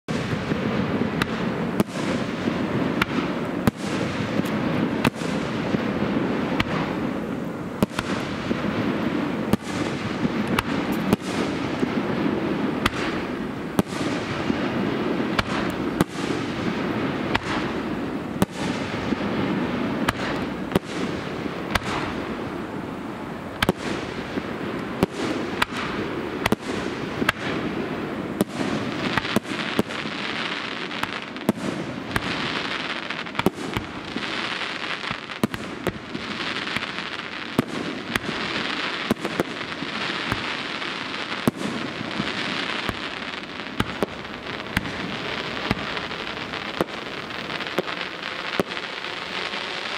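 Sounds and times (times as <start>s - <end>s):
fireworks crackling: 0.0s - 49.9s
fireworks bangs: 0.1s - 49.9s.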